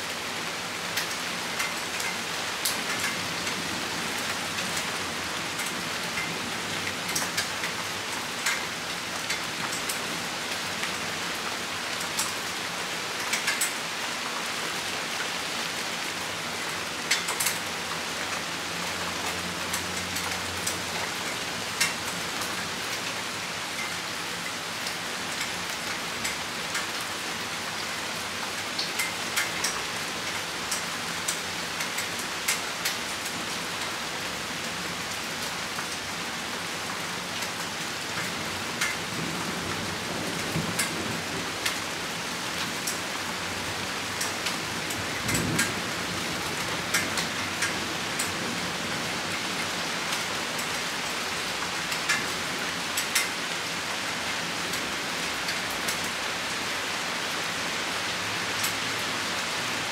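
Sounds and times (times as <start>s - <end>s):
rain falling: 0.0s - 59.9s
raindrops ticking on surface: 0.1s - 59.9s.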